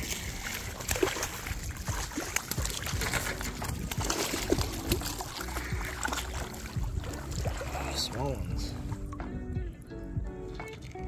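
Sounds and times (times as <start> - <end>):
low rumble of moving water: 0.0 - 11.0
water splashing and trickling: 0.0 - 11.0.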